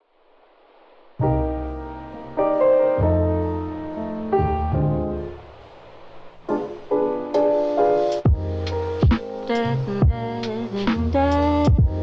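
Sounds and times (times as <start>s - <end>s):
soft piano chords: 1.2s - 12.0s.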